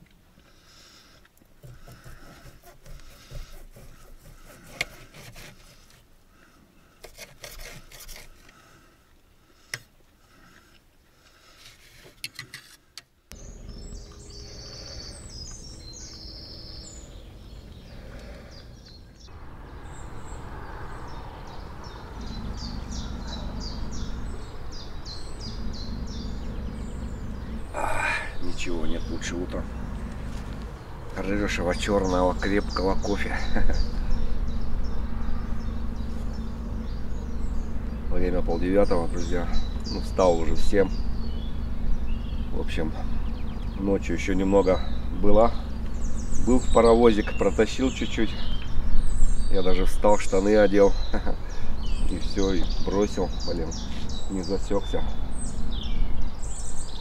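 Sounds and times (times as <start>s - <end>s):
birds chirping: 0.0s - 11.6s, 13.3s - 57.0s.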